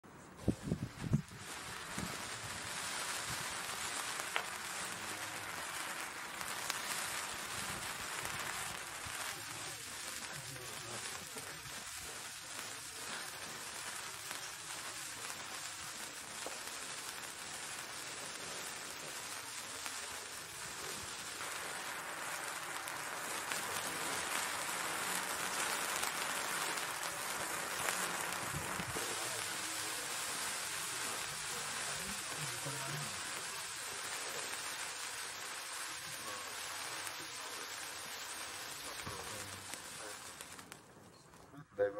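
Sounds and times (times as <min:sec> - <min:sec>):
sparkler crackles: 0:00.1 - 0:41.9
sparkler fizzing hiss: 0:00.2 - 0:41.9.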